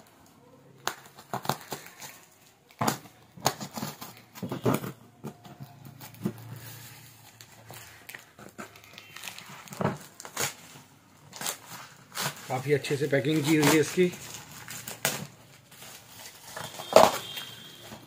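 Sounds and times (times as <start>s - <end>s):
hands tearing packing tape: 0.8s - 4.6s, 5.7s - 18.0s.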